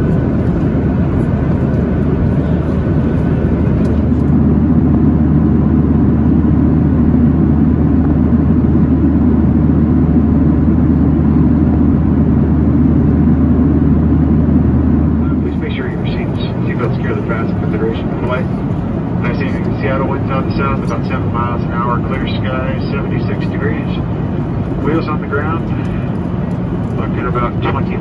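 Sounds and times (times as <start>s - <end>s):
airplane cabin roar: 0.0s - 28.0s.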